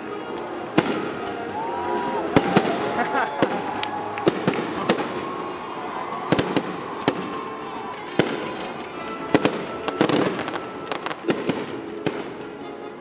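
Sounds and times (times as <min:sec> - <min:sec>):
fireworks bursting with sharp bangs: 0:00.6 - 0:12.9.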